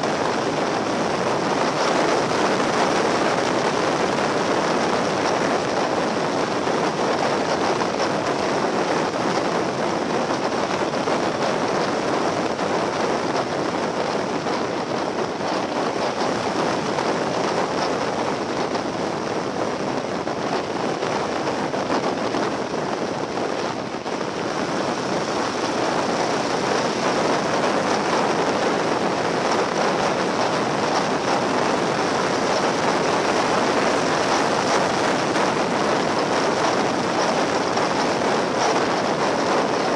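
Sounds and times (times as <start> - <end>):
wind and road noise on motorcycle: 0.0 - 39.9.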